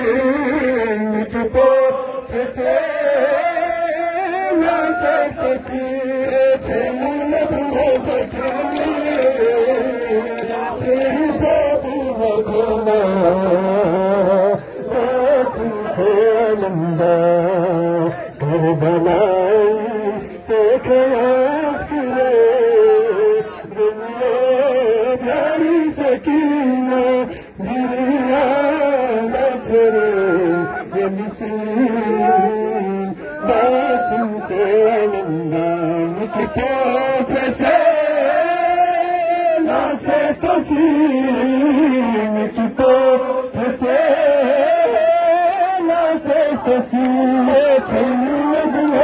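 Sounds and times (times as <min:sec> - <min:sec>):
men chanting a lament: 0:00.0 - 0:49.0.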